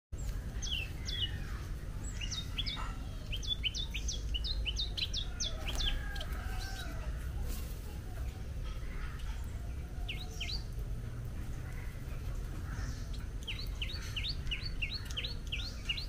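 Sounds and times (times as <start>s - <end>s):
finches chirping: 0.2s - 7.0s, 8.6s - 10.8s, 11.6s - 16.0s.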